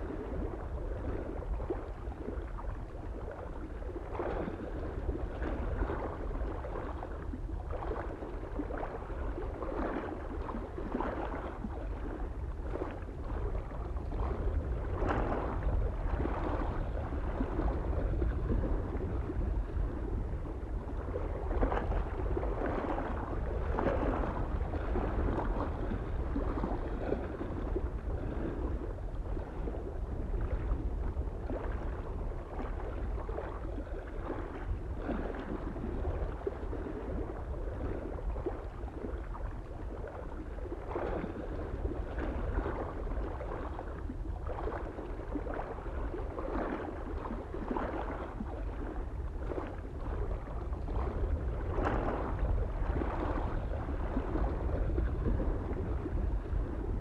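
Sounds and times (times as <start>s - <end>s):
small waves lapping on shore: 0.0s - 57.0s
wind rumble on microphone: 0.0s - 57.0s.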